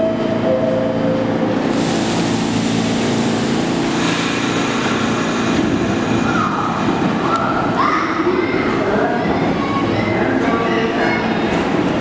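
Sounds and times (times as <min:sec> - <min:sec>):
low hum of train motors: 0:00.0 - 0:12.0
train wheels rumbling on rail: 0:01.2 - 0:12.0.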